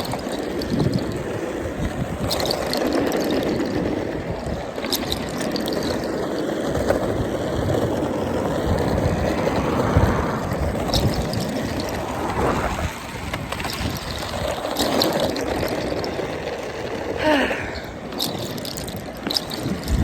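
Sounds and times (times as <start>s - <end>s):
skateboard sharp clicks: 0.0s - 20.0s
skateboard wheels rolling on pavement: 0.0s - 20.0s.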